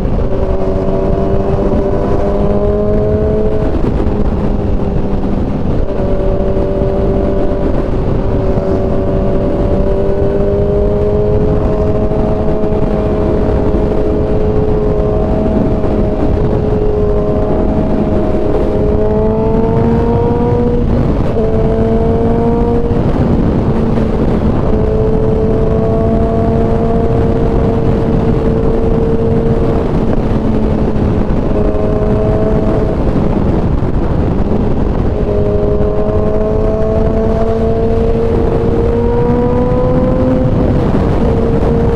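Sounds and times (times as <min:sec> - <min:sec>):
motorcycle engine cruising: 0:00.0 - 0:41.9
wind noise: 0:00.0 - 0:41.9.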